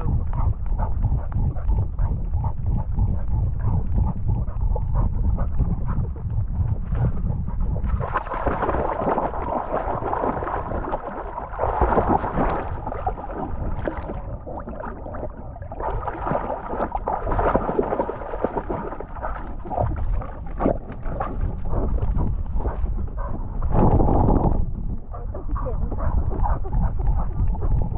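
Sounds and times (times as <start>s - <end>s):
water splashing and gurgling: 0.0s - 27.9s.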